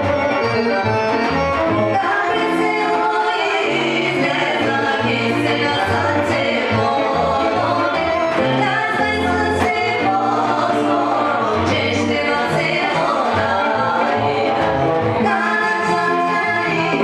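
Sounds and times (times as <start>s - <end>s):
accordion: 0.0s - 17.0s
acoustic guitar: 0.0s - 17.0s
bass line: 0.0s - 17.0s
women singing together: 1.9s - 17.0s.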